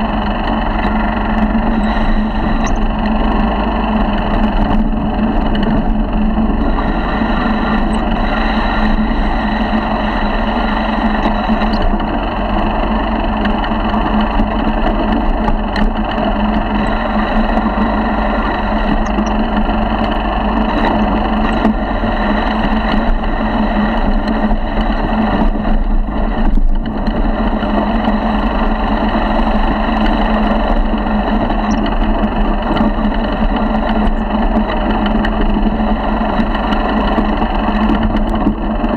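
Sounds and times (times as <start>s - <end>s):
motorized bicycle engine running: 0.0s - 38.9s.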